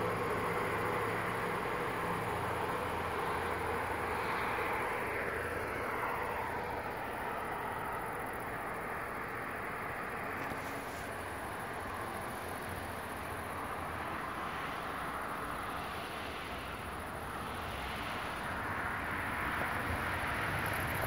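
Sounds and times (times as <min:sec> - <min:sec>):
outdoor rushing noise: 0:00.0 - 0:21.0.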